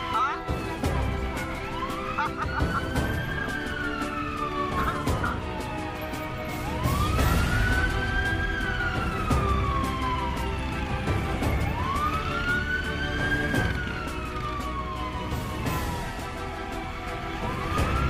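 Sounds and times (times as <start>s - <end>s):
wailing siren: 0.0s - 18.0s
wind: 0.0s - 18.0s.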